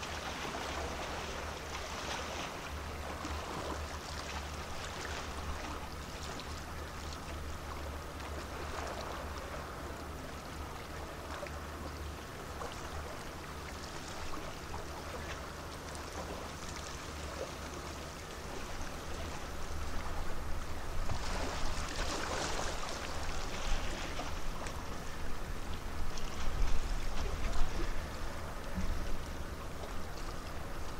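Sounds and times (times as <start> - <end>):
water washing along quay: 0.0 - 30.9.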